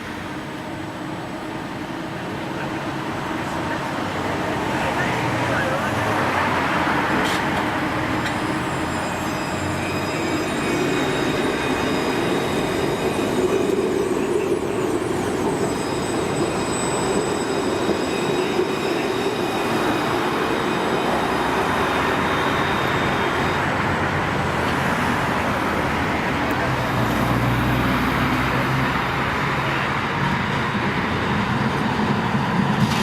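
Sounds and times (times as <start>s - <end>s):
tram rumbling on rails: 0.0s - 33.0s.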